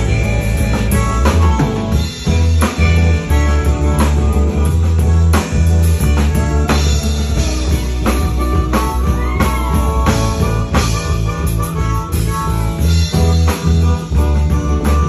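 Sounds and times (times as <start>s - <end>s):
bending guitar lines: 0.0s - 15.0s
live band playing: 0.0s - 15.0s
steady drum beat: 0.0s - 15.0s.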